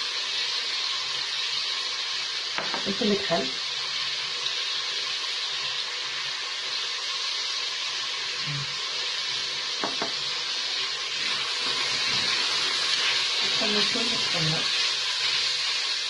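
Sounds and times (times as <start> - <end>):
meat and onions sizzling in oil: 0.0 - 16.0.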